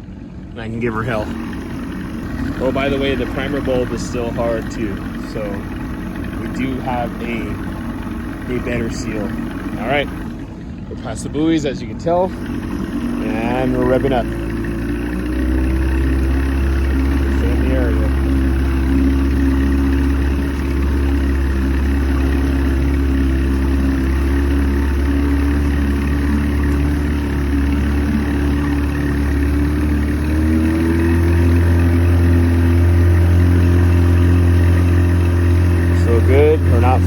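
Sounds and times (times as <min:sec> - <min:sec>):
outboard motor running hard: 0:00.0 - 0:37.0.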